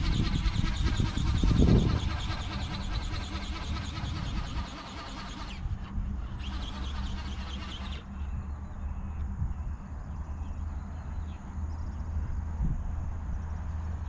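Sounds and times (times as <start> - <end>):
fast mechanical motor buzz: 0.0 - 14.0
steady low rumble: 0.0 - 14.0.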